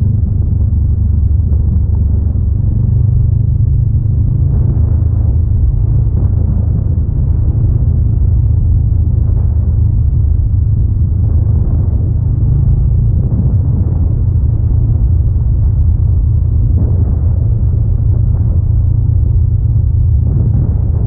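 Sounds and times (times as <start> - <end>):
motorcycle engine rumble: 0.0 - 21.0.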